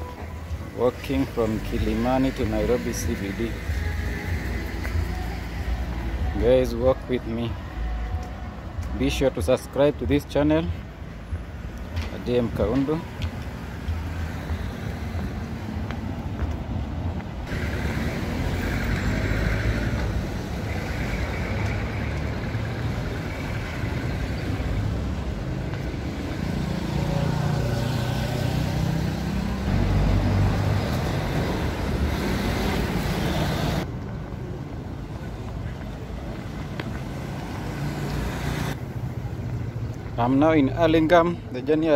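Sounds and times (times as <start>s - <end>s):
vehicles driving past: 0.0s - 41.9s.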